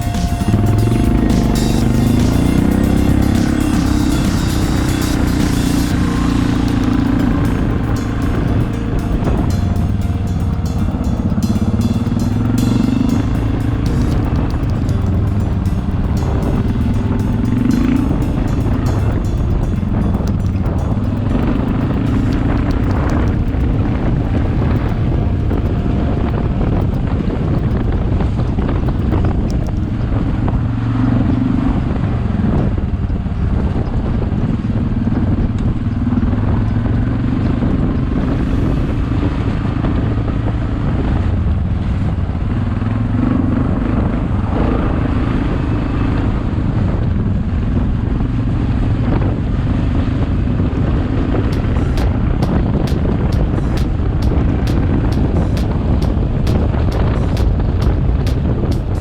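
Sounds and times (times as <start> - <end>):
quad bike engine running: 0.0 - 59.0
wind noise on microphone: 0.0 - 59.0.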